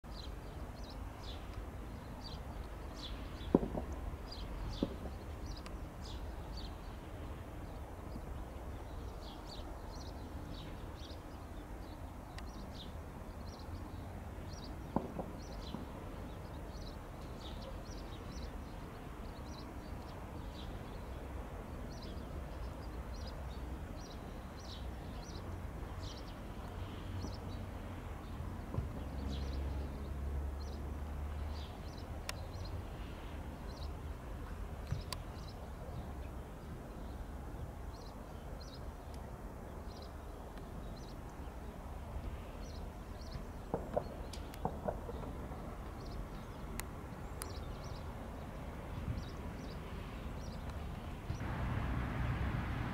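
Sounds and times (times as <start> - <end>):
small birds chirping: 0.1 - 51.5.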